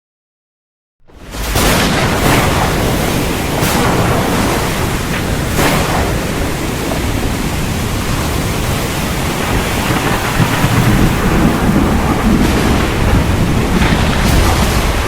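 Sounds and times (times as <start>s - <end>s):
heavy rain pouring: 1.1s - 15.0s
low thunder rumbling: 1.1s - 15.0s
sharp thunder crack: 1.1s - 15.0s.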